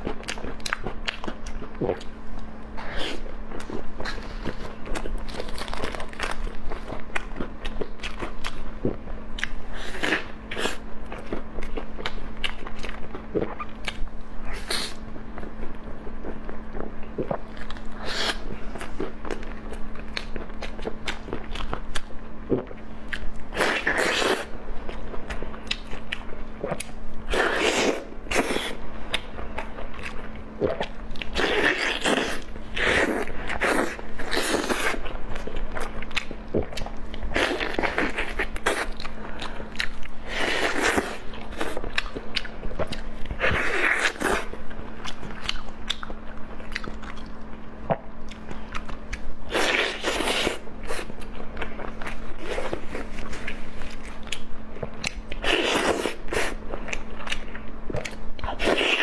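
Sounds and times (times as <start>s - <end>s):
person biting and chewing food: 0.0s - 15.0s, 16.2s - 59.0s
faint steady hum: 0.0s - 59.0s.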